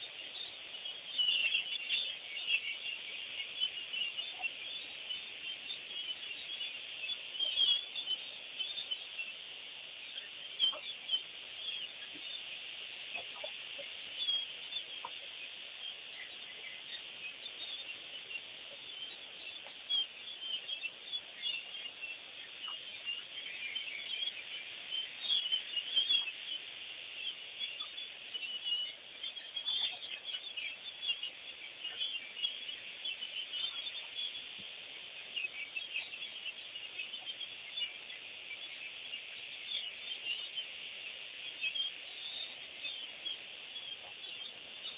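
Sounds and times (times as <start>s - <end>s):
many birds chirping: 0.0s - 44.9s.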